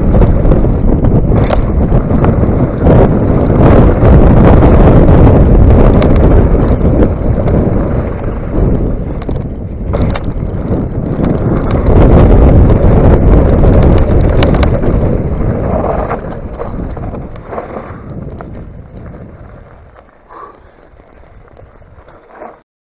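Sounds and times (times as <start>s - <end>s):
wind buffeting microphone: 0.0s - 22.4s
bike knocks and rattles: 0.0s - 22.6s.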